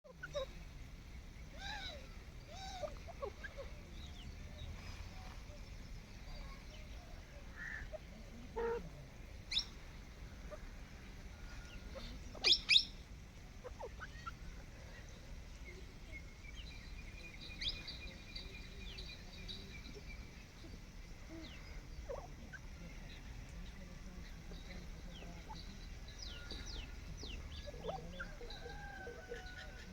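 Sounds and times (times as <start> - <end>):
francolin calling: 0.0 - 29.9.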